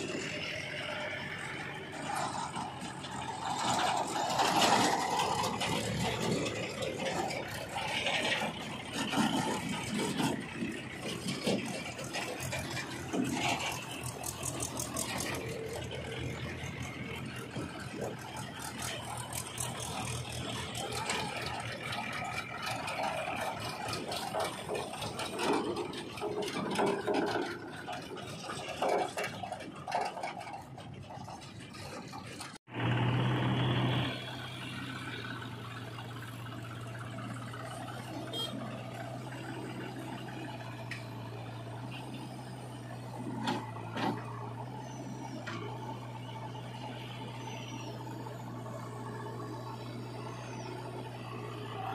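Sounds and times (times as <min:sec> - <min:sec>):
diesel engine idling: 0:00.0 - 0:51.9
tractor engines passing: 0:00.0 - 0:51.9
trailers rattling: 0:00.0 - 0:51.9.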